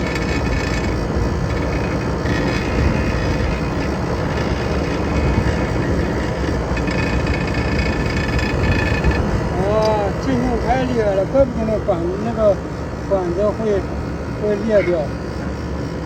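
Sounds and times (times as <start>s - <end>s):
air conditioner compressor running: 0.0s - 16.0s.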